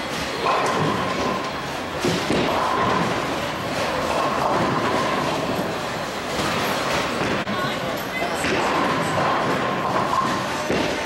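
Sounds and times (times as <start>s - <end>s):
bowling alley clatter: 0.2s - 7.5s, 8.4s - 11.0s
bowling ball rolling: 0.4s - 7.4s, 8.4s - 11.0s.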